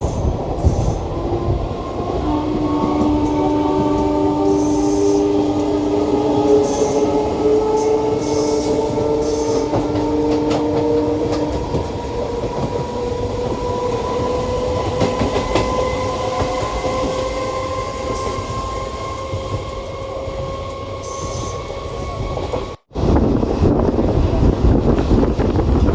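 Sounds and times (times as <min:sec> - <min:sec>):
train rumbling on track: 0:00.0 - 0:25.9.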